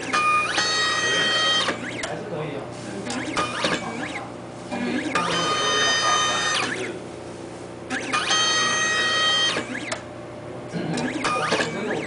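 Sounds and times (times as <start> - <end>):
stepper motor whine: 0.0 - 2.3, 2.9 - 7.1, 7.8 - 10.2, 10.8 - 12.0.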